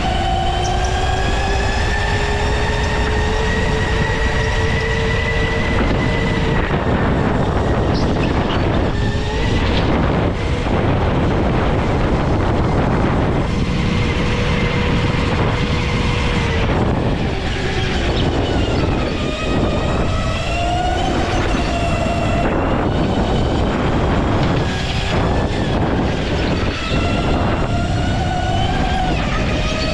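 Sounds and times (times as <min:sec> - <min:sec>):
go-kart motor: 0:00.0 - 0:29.9.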